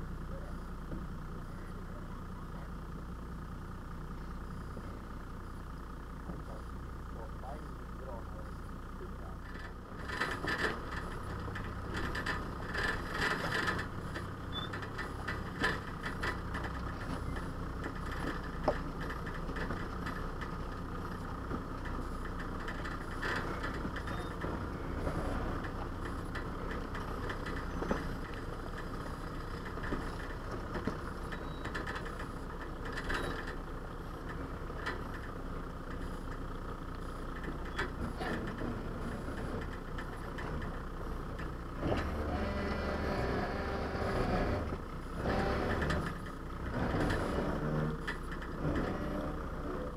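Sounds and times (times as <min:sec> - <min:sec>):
vehicle engine running: 0:00.0 - 0:49.9
vehicle knocks and rattles: 0:08.7 - 0:49.9.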